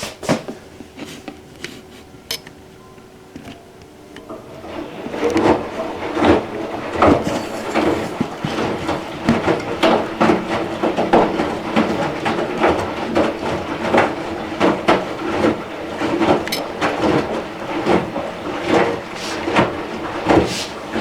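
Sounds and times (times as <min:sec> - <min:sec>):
washing machine hum: 0:00.0 - 0:21.0
washing machine drum knocking: 0:04.1 - 0:21.0.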